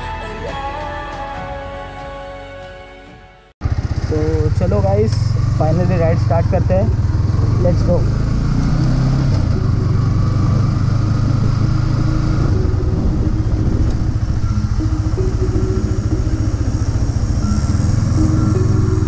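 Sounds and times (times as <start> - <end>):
motorcycle engine running: 3.6 - 19.0.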